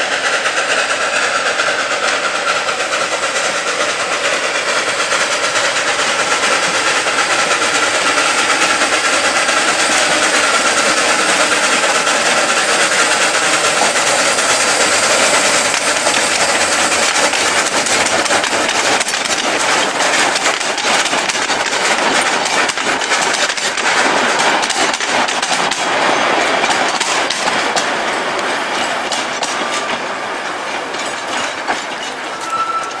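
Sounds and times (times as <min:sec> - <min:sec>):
train wheels rattling: 0:00.0 - 0:33.0.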